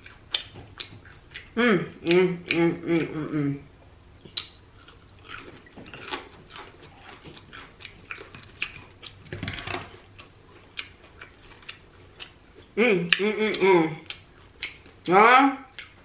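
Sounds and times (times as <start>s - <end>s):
chewing crunchy fried food: 0.0s - 3.1s, 4.2s - 13.2s, 14.0s - 16.0s.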